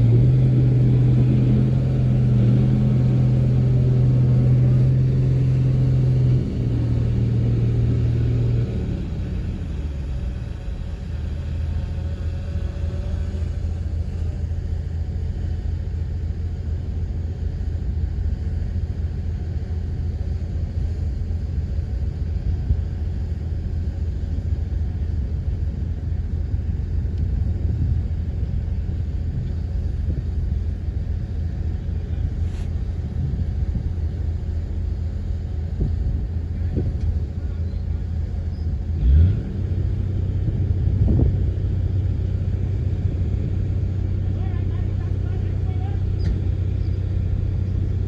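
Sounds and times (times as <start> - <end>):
heavy diesel machinery rumbling: 0.0 - 48.0.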